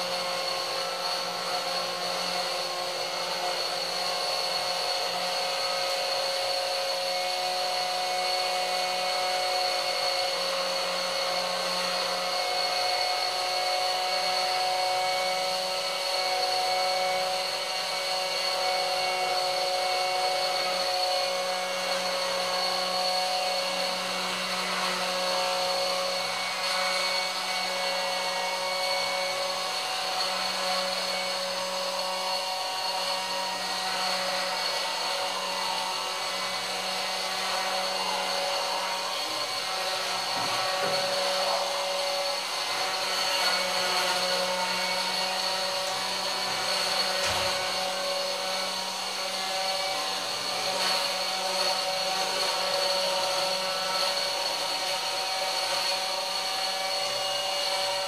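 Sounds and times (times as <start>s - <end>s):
router spindle motor whining: 0.0s - 58.0s.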